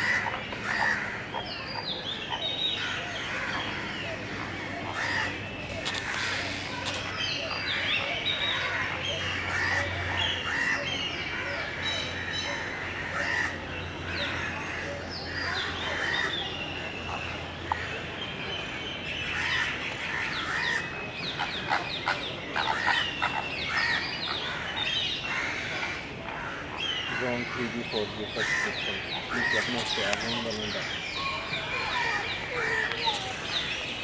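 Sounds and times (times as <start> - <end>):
flock of birds chirping: 0.0 - 34.0.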